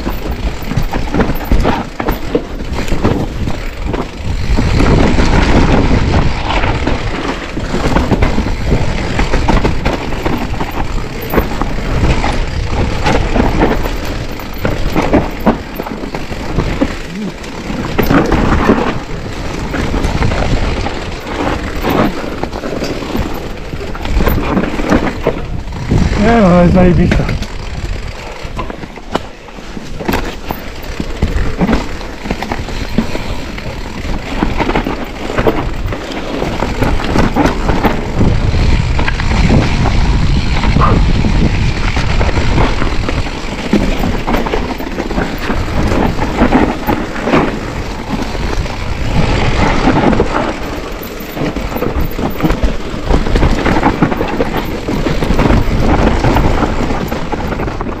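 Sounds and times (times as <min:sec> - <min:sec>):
wind rumble on microphone: 0:00.0 - 0:28.9, 0:29.8 - 0:58.0
bike rattling over bumps: 0:00.0 - 0:58.0
bike tyres rolling over dirt: 0:00.0 - 0:58.0.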